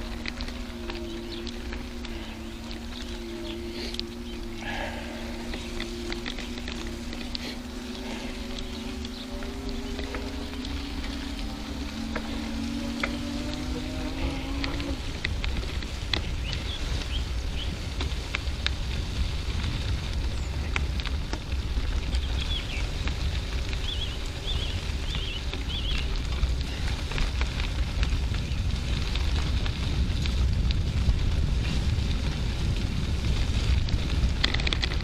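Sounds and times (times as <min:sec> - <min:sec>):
bicycle tyres on gravel: 0:00.0 - 0:35.0
wind buffeting microphone: 0:00.0 - 0:35.0.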